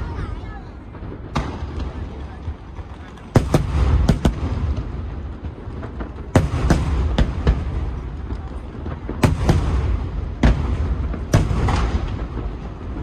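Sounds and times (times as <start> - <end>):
fireworks bangs: 0.0 - 13.0
low rumble of shells bursting: 0.8 - 13.0.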